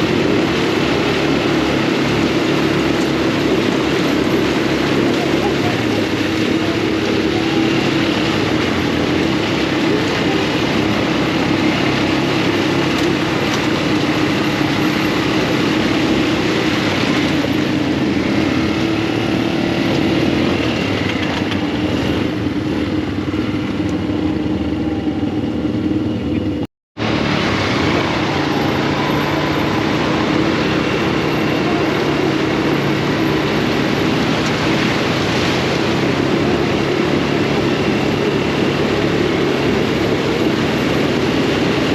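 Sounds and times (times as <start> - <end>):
buggy engine running: 0.0 - 41.9.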